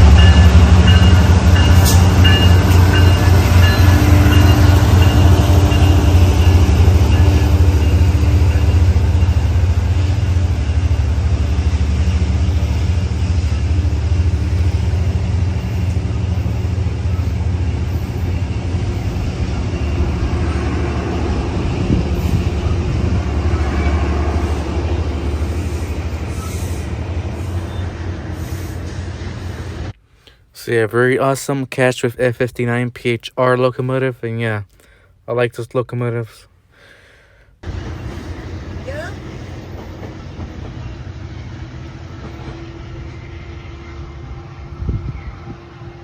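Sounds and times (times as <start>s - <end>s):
train passing: 0.0s - 30.0s, 37.6s - 46.0s.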